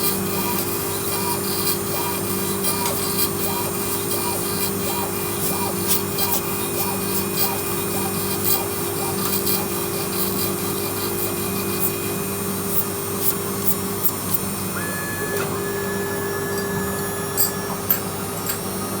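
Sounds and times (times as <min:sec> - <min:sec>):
milling machine humming: 0:00.0 - 0:19.0.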